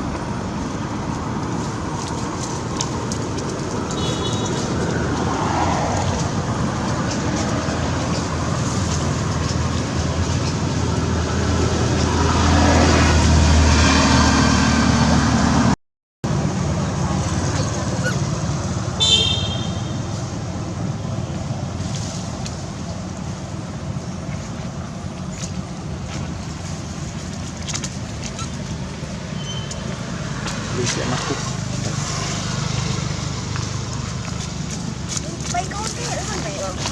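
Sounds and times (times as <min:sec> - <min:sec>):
road traffic: 0:00.0 - 0:36.9
vehicle low rumble: 0:00.0 - 0:36.9.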